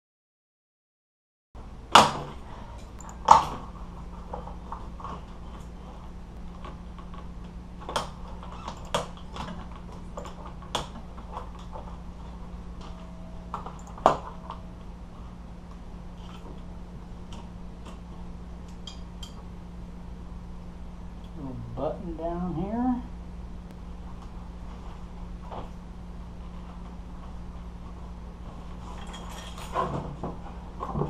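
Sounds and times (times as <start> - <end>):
steady low hum: 1.6 - 31.0.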